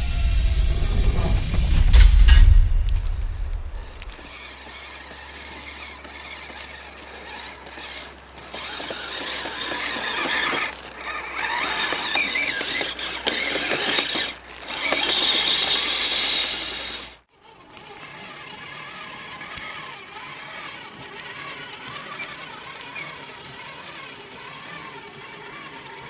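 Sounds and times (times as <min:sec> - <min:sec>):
high-pitched mechanical squeal: 0:00.0 - 0:26.0
rc vehicle motor and tracks: 0:00.0 - 0:26.0.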